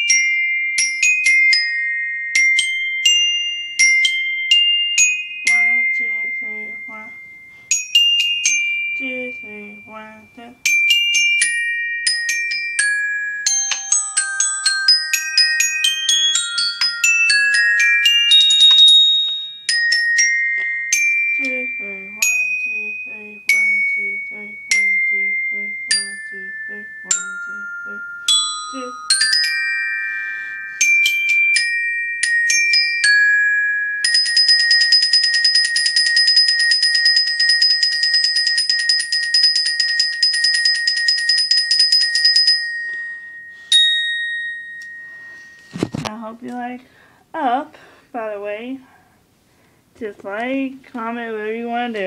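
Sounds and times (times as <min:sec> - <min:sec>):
glockenspiel tune and roll: 0:00.0 - 0:46.6.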